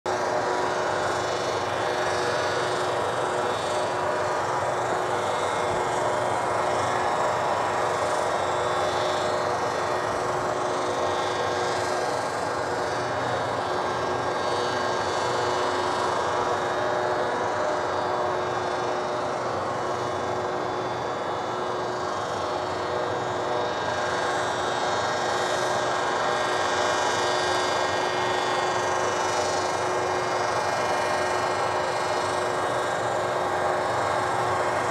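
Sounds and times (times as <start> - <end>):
snow cannon running: 0.1 - 34.9.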